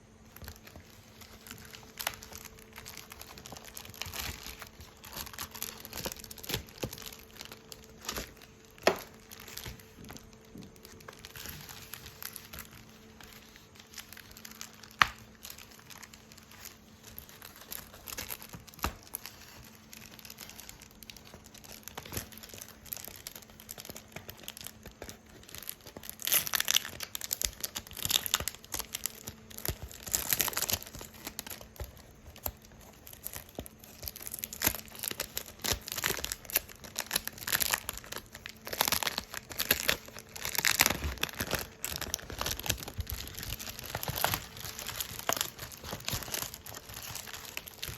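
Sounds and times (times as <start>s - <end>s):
packaging crinkling: 0.0s - 47.9s.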